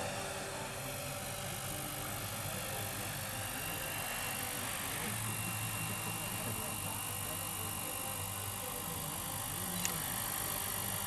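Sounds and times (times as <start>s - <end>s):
faint high whine: 0.0s - 11.0s
model helicopter rotors whirring: 0.0s - 11.0s.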